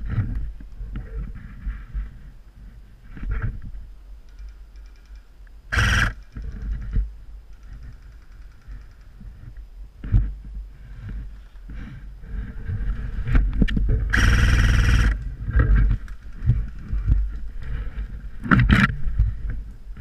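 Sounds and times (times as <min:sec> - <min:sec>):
camera movement rumble: 0:00.0 - 0:20.0.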